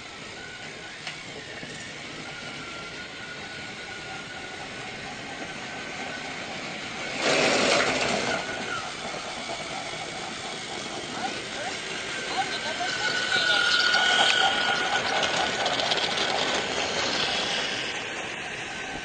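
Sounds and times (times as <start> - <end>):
train rushing: 0.0 - 19.0
loud burst of noise: 2.2 - 19.0.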